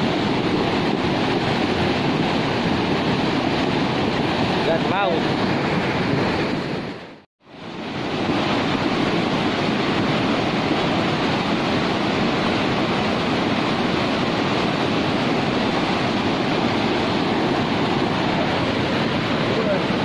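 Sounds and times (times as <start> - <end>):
rushing floodwater in river: 0.0 - 20.0.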